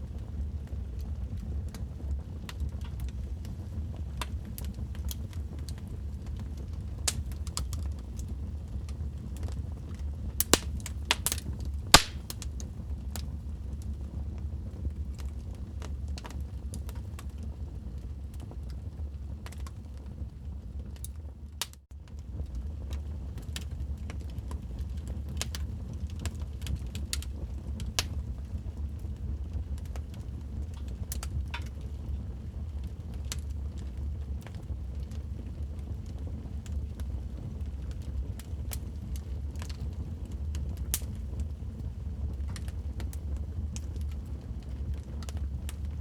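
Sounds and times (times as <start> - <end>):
fire low rumble: 0.0 - 46.0
wood fire crackling and popping: 0.0 - 46.0.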